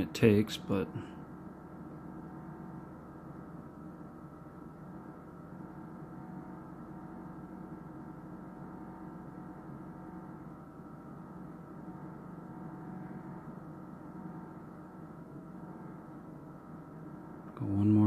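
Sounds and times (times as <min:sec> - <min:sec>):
steady hum of held tones: 0:00.0 - 0:18.0.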